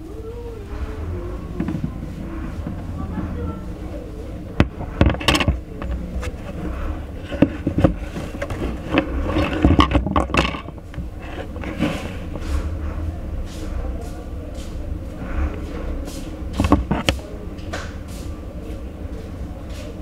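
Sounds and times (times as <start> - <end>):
steady low hum: 0.0 - 20.0
parts clicking and scraping: 0.7 - 14.0, 14.6 - 18.1.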